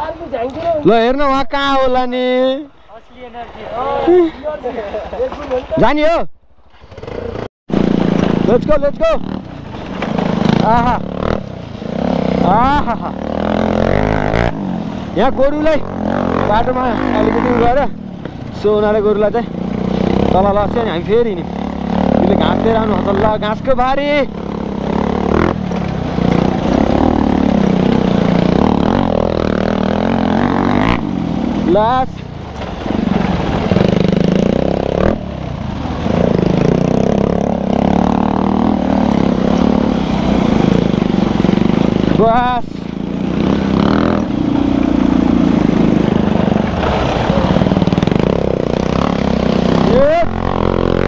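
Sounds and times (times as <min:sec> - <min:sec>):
motorcycle engine running: 0:06.8 - 0:51.0.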